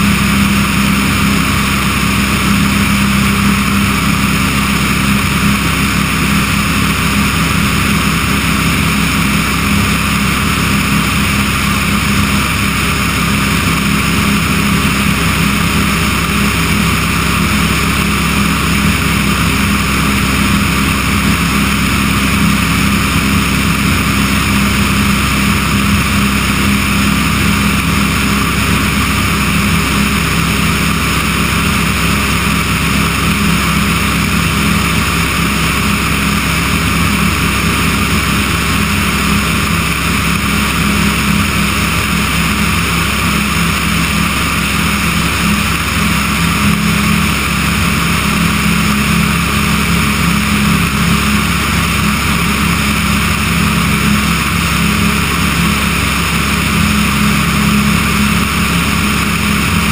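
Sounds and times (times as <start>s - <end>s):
aircraft engine droning: 0.0s - 59.9s
rushing airflow: 0.0s - 59.9s.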